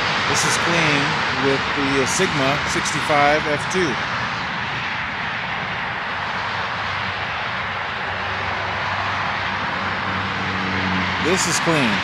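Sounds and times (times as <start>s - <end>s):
city street traffic roar: 0.0s - 12.0s.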